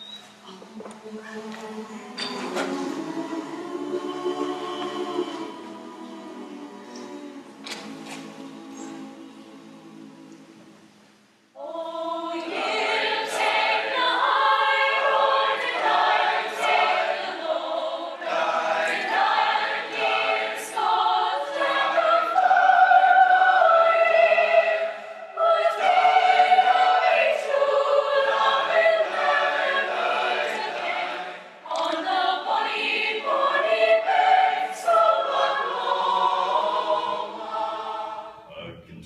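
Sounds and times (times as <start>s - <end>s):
choir singing: 0.4s - 38.6s.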